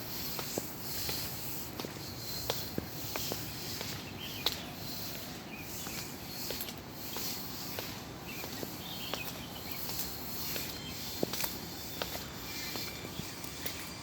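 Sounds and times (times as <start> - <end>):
footsteps on path: 0.0 - 14.0.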